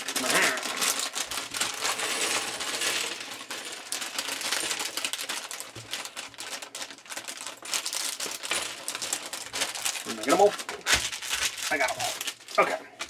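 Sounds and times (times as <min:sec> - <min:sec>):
plastic bag crinkling: 0:00.0 - 0:13.0
small plastic bricks clattering: 0:00.0 - 0:13.0.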